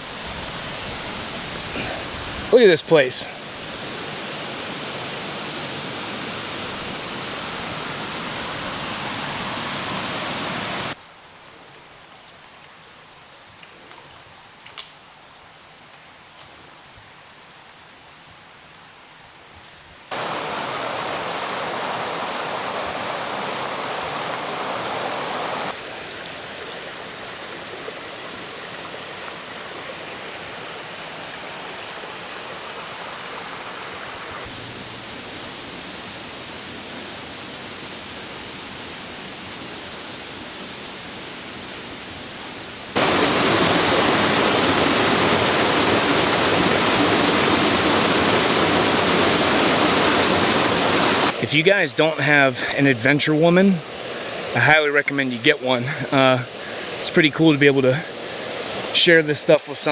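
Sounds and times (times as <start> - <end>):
waterfall rushing: 0.0 - 11.0, 20.1 - 59.9.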